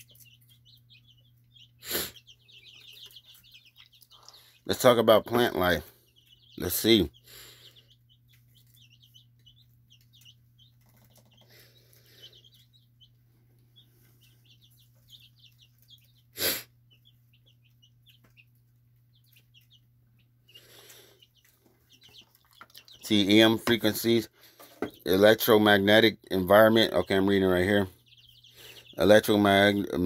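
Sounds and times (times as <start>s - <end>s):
high-pitched bird chirps: 0.0s - 24.2s, 25.0s - 30.0s.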